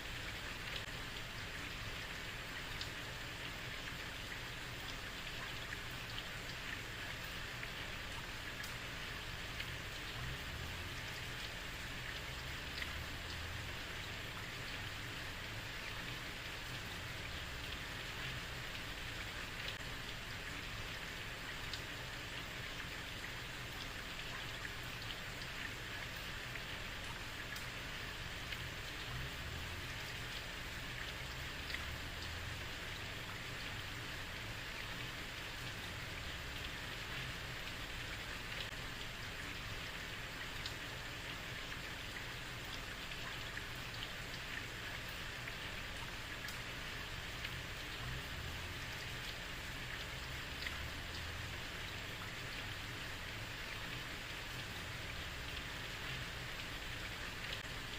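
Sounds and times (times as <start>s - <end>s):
heavy rain on a street: 0.0s - 57.9s.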